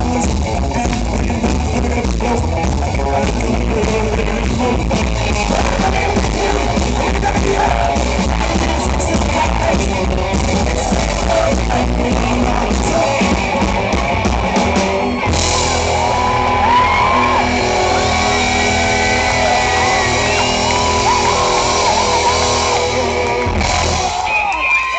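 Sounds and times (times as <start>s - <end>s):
live rockabilly band: 0.0s - 24.9s.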